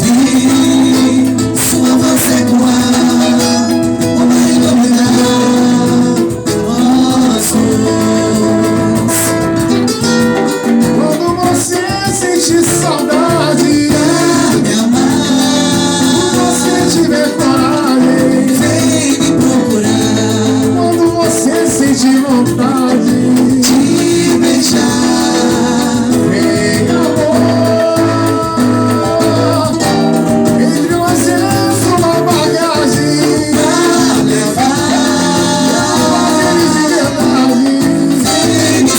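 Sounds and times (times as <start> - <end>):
bass line: 0.0 - 38.9
steady beat: 0.0 - 38.9
strummed guitar: 0.0 - 38.9.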